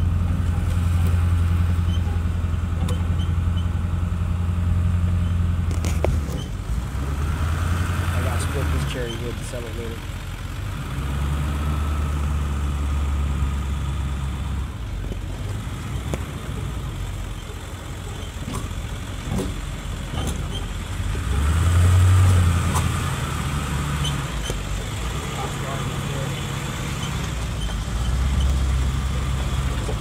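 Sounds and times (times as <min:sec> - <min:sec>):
truck engine driving: 0:00.0 - 0:30.0.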